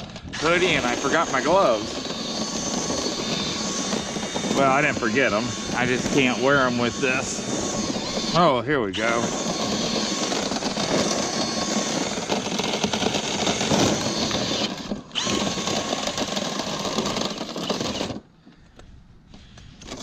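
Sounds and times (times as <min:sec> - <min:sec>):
power drill spinning duct brush: 0:00.0 - 0:20.0.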